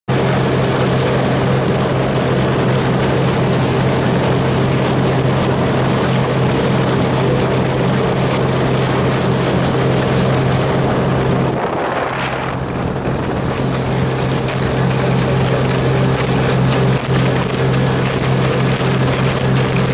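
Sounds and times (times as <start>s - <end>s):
high whine: 0.1s - 19.9s
motorboat engine drone: 0.1s - 19.9s
water rushing off hull: 0.1s - 19.9s.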